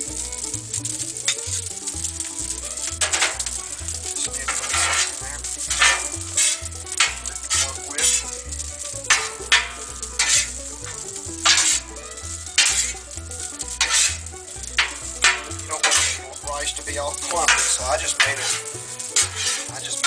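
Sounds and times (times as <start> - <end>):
food sizzling on griddle: 0.0 - 20.0
spatula scraping griddle: 0.0 - 20.0.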